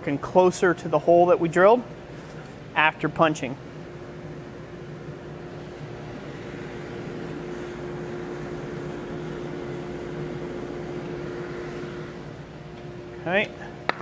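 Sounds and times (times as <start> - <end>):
forge blower humming: 0.0 - 14.0.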